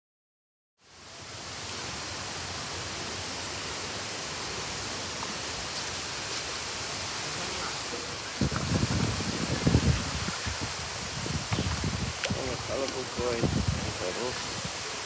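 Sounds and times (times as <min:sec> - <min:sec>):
falling water hiss: 0:00.8 - 0:15.0.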